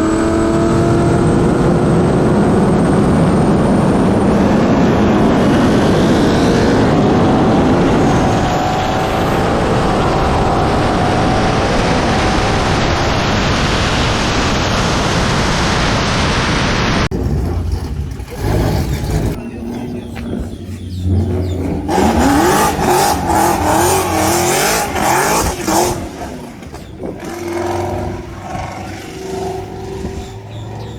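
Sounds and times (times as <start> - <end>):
car engines accelerating: 0.0 - 30.9.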